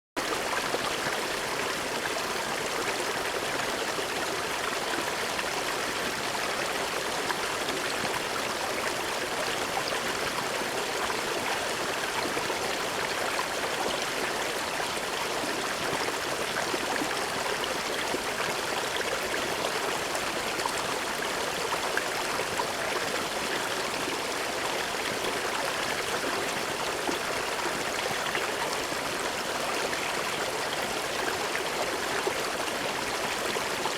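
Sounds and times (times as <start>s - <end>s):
brook babbling over rocks: 0.2s - 33.9s.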